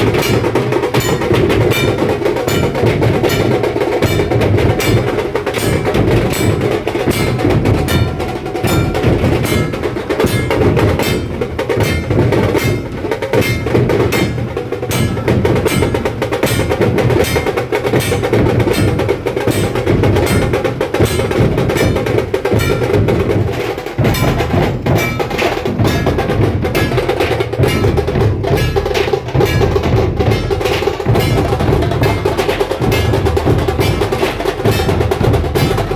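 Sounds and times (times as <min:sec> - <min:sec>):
big drums beating: 0:00.0 - 0:35.9
sharp snare drums beating: 0:00.0 - 0:35.9.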